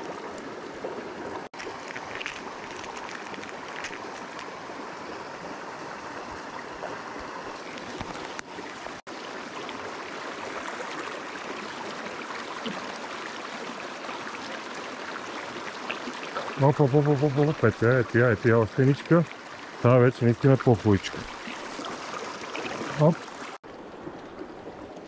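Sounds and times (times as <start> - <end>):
stream flowing over stones: 0.0 - 25.0.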